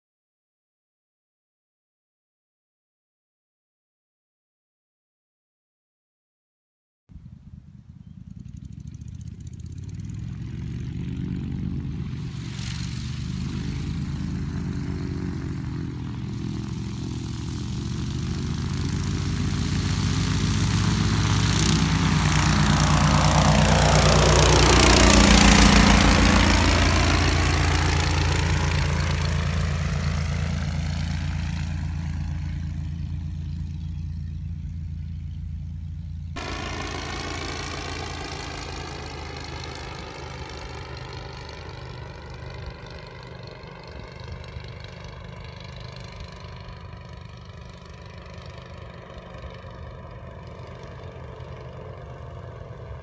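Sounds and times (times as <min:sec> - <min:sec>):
powered parachute engine and propeller: 0:07.1 - 0:53.0.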